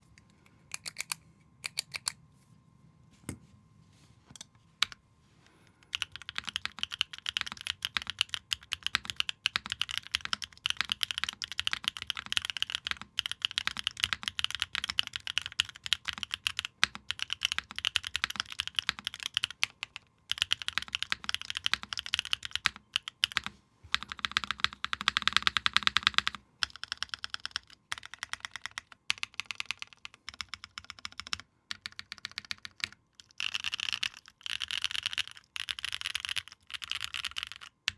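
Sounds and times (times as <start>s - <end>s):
mechanical keyboard typing: 0.7s - 2.2s, 5.8s - 37.9s.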